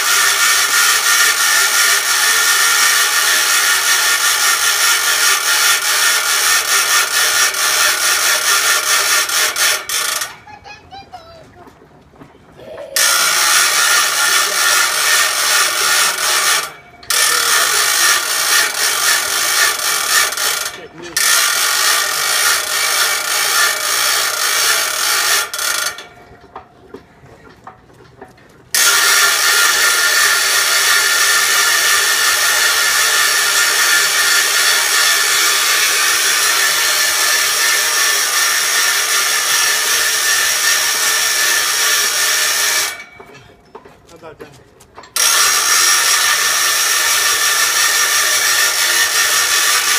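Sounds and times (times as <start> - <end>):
wheel ratcheting clicks: 0.0 - 10.4, 13.0 - 43.8, 45.0 - 49.9.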